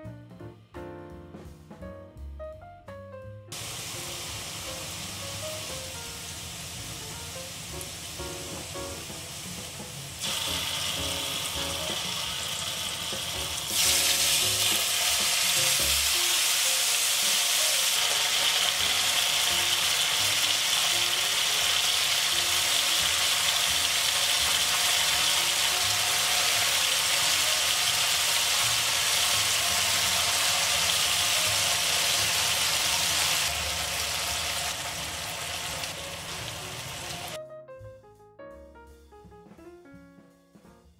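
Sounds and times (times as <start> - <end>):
oil sizzling in a pan: 3.5 - 37.4.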